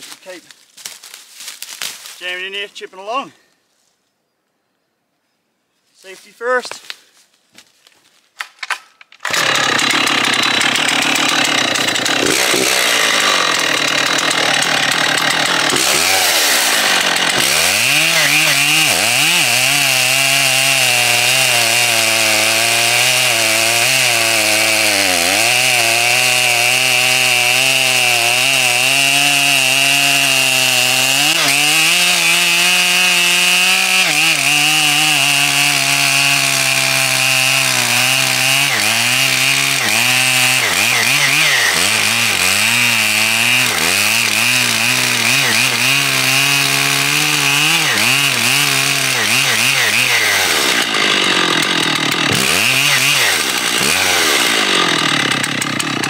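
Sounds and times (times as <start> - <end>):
chainsaw cutting through wood: 9.2 - 56.0.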